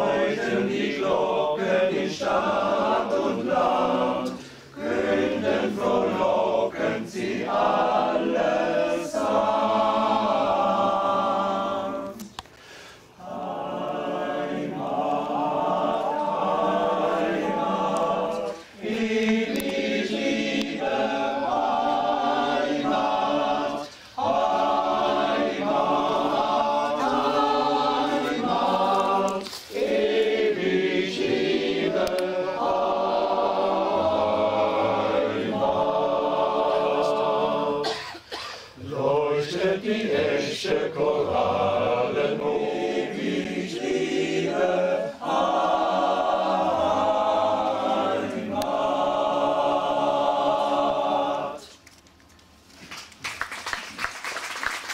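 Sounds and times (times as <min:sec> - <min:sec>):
choir singing a cappella: 0:00.0 - 0:51.8.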